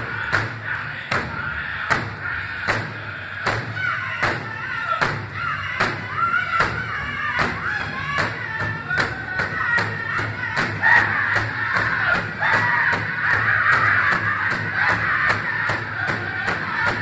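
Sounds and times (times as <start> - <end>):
high-pitched group singing: 0.0 - 17.0.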